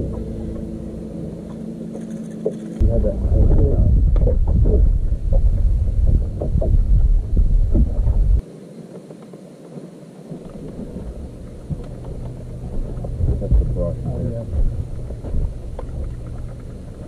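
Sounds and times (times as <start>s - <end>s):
wind buffeting microphone: 0.0s - 17.0s
wind hiss: 0.0s - 17.0s.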